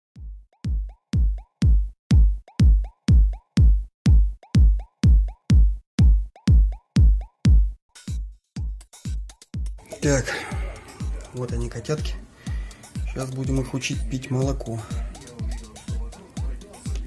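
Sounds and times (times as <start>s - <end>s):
heavy kick drum: 0.2s - 17.0s
electronic dance music: 1.2s - 17.0s.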